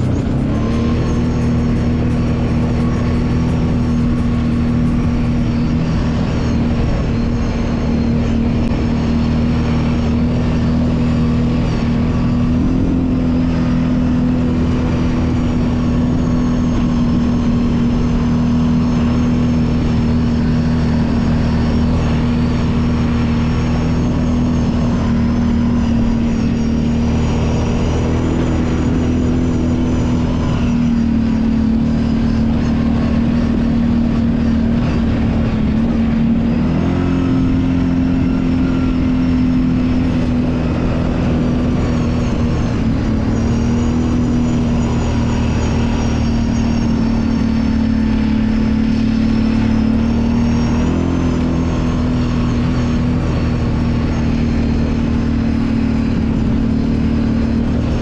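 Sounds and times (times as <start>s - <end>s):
engine droning steadily: 0.0s - 58.0s.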